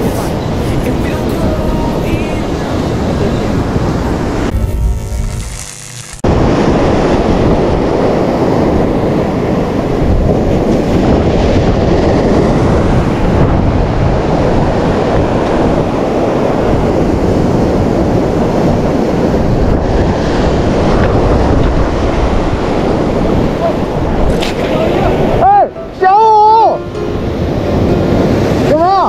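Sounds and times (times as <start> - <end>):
sea surf washing on shore: 0.0 - 4.6, 6.2 - 29.0
wind blowing on microphone: 0.0 - 5.6, 6.2 - 29.0.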